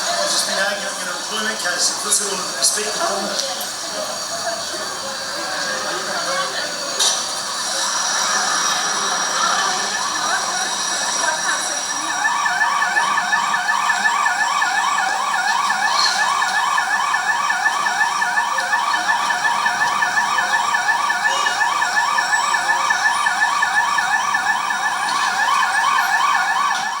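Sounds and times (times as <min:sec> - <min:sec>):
emergency siren yelping: 0:00.0 - 0:27.0.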